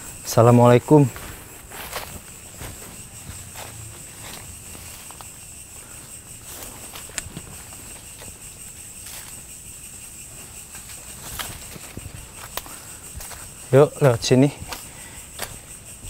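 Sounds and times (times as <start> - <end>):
night insects trilling: 0.0 - 16.0
footsteps rustling through undergrowth: 0.1 - 16.0.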